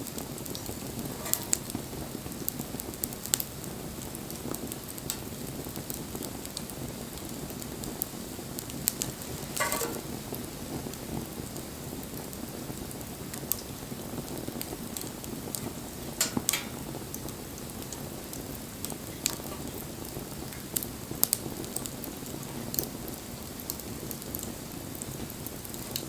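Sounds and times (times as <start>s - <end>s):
bonfire flame rush: 0.0s - 26.0s
fire crackles and pops: 0.0s - 26.0s.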